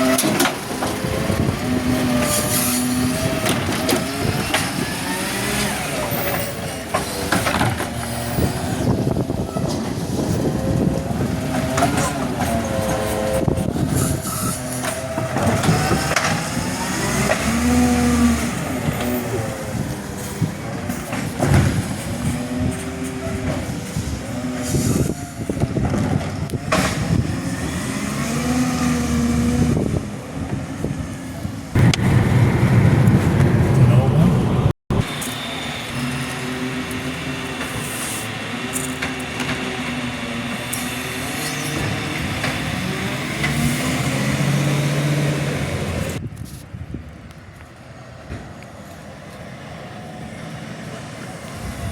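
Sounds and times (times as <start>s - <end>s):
garbage truck engine running: 0.0s - 46.2s.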